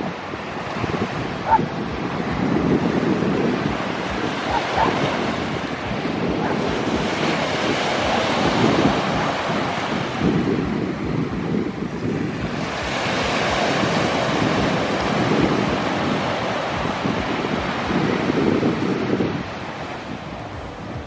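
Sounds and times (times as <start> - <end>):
waves washing on sand: 0.0 - 21.0
wind on microphone: 0.0 - 21.0.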